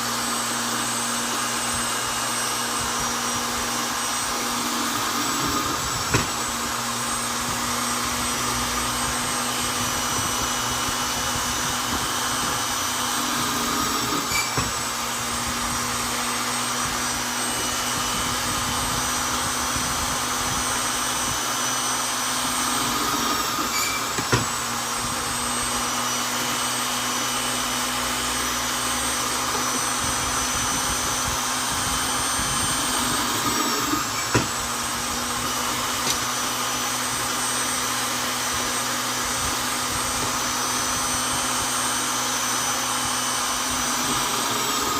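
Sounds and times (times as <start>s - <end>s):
drill sharp click: 0.0s - 44.9s
electric drill boring into wood: 0.0s - 44.9s.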